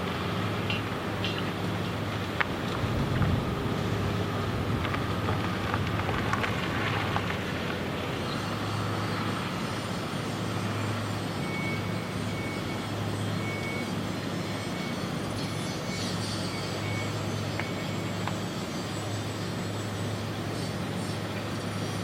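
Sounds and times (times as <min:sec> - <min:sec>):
heavy machinery engine hum: 0:00.0 - 0:22.0.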